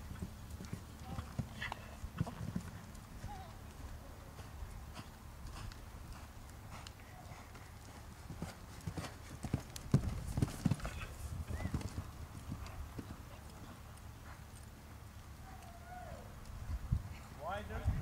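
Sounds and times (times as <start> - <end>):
horse hoofbeats on sand: 0.0 - 14.4.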